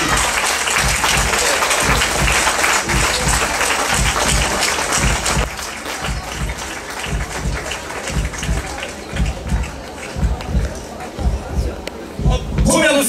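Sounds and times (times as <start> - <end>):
audience applauding: 0.0 - 11.9
background music with bass beat: 0.0 - 12.8.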